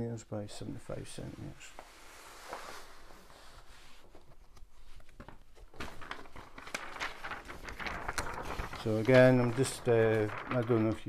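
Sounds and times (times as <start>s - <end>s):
canvas rustling and crinkling: 1.9s - 11.0s.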